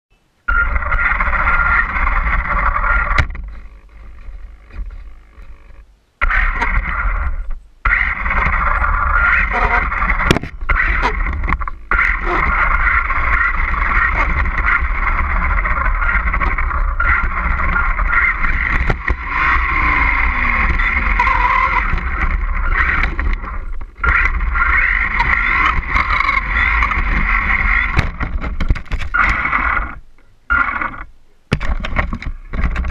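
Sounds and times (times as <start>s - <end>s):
wind on camera: 0.5s - 30.0s
tyres rumbling on concrete: 0.5s - 30.8s
toy truck motor and gears whining: 0.5s - 31.1s.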